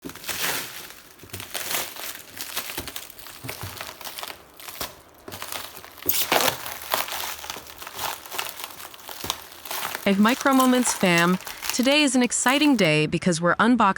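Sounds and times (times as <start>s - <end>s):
packaging crinkling: 0.0s - 12.9s.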